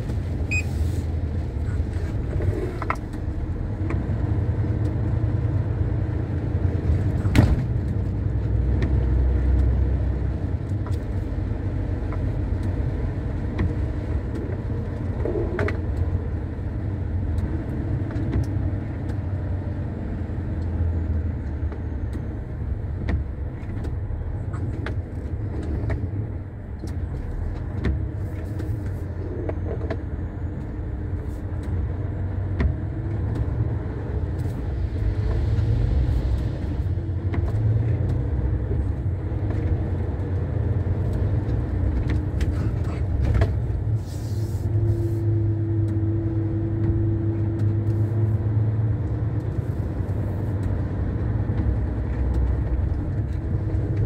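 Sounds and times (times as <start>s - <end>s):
truck engine and tyres droning: 0.0s - 54.0s.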